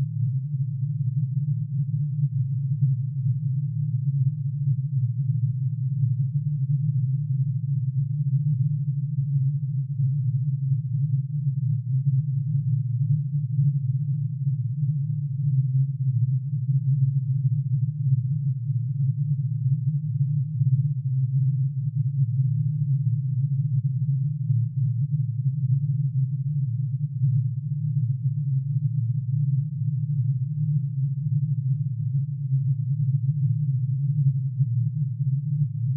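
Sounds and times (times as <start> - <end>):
low synthesized hum: 0.0 - 35.9.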